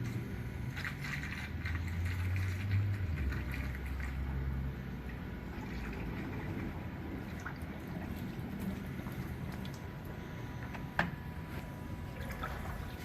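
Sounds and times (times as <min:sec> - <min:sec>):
water pouring and gurgling: 0:00.0 - 0:10.7, 0:11.4 - 0:13.0.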